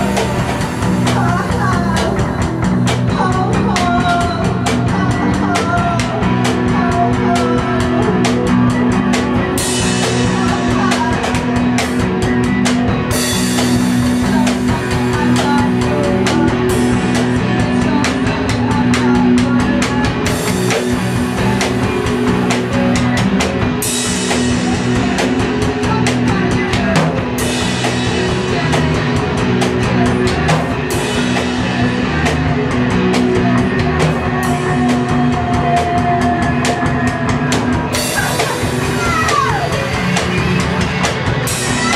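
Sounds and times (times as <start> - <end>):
droning guitar tones: 0.0 - 41.9
drum kit beaten busily: 0.0 - 41.9.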